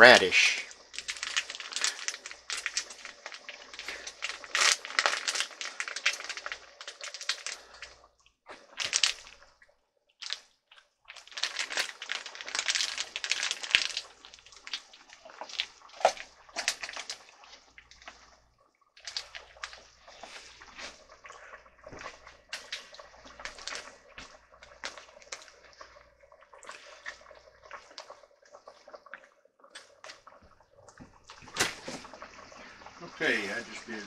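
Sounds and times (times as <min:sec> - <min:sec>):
curry simmering and bubbling: 0:00.0 - 0:34.0.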